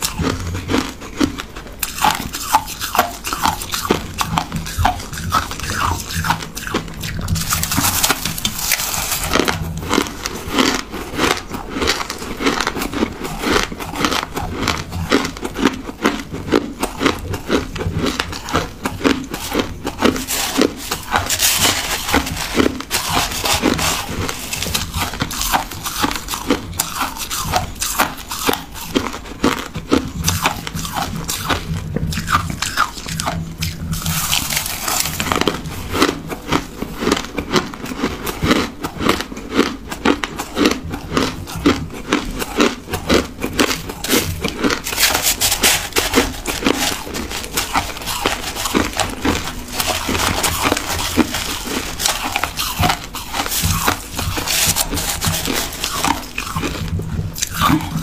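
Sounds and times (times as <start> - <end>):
chewing crushed ice: 0.0 - 58.0.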